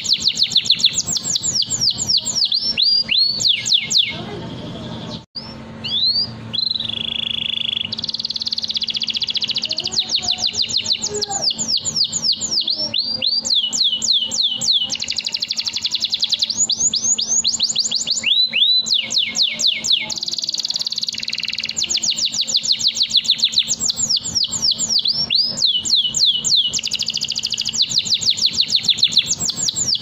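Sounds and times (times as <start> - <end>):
canary singing: 0.0 - 30.0.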